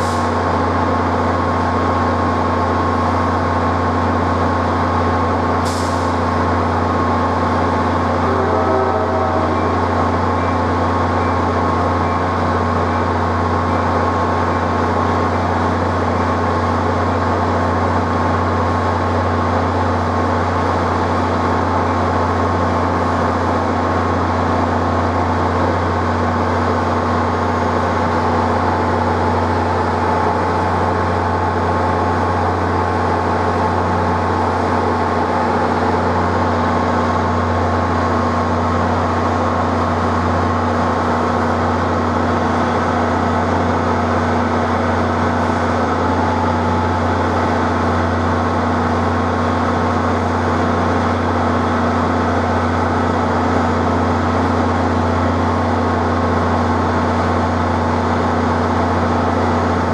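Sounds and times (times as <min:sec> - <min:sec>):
low mechanical drone: 0:00.0 - 0:59.9.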